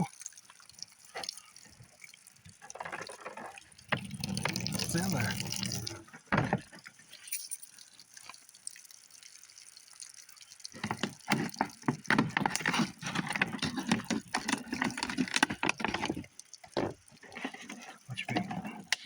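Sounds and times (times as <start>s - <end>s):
water splashing from a jug: 0.0s - 19.0s.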